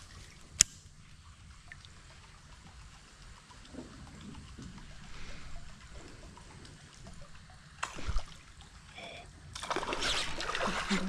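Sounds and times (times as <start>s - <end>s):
creek water trickling: 0.0s - 11.0s.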